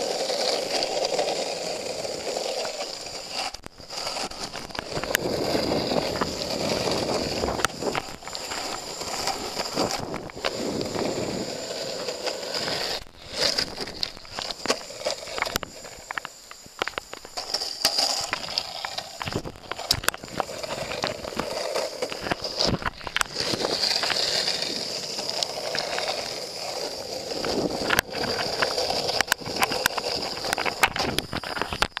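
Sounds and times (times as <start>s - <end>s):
longboard wheels rolling on pavement: 0.0s - 32.0s.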